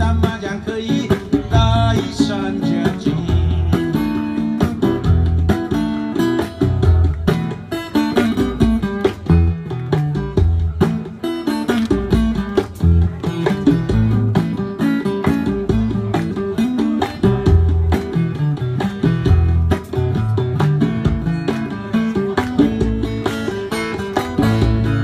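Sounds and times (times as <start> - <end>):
hand drum: 0.0 - 25.0
plucked guitar: 0.0 - 25.0.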